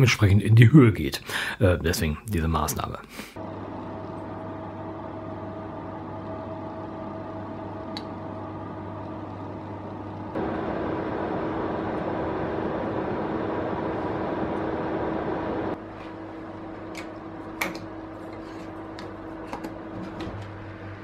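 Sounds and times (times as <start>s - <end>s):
electric oven humming: 3.4s - 21.0s.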